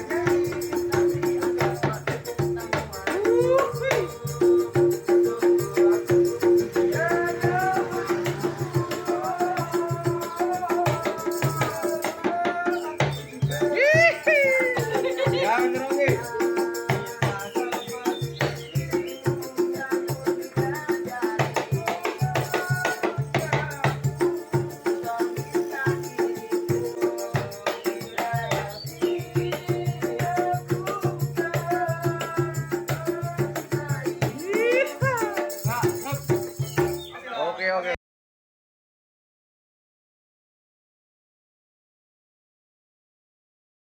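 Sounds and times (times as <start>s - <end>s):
person singing: 0.0s - 37.1s
shaker: 0.0s - 37.1s
hand percussion: 0.0s - 37.2s
steady rhythmic beat: 0.0s - 37.2s.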